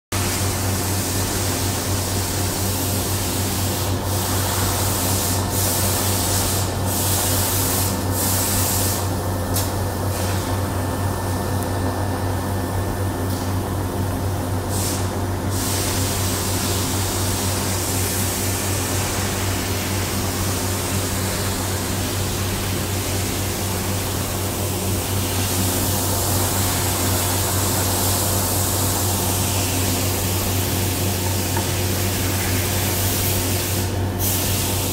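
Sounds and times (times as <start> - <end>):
machinery hum with steady tones: 0.1 - 34.9
ventilation hiss: 0.1 - 34.9.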